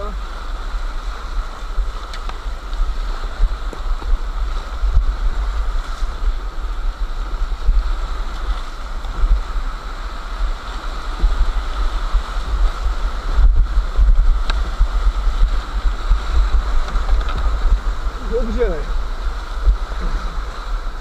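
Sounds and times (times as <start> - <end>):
whitewater roaring: 0.0 - 21.0
wind buffeting microphone: 0.0 - 21.0.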